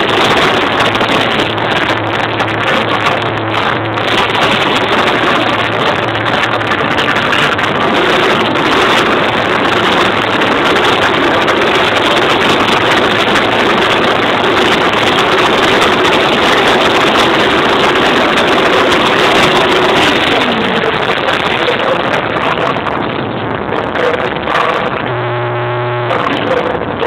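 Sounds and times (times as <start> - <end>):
motorcycle engines revving: 0.0 - 22.8, 24.6 - 26.7.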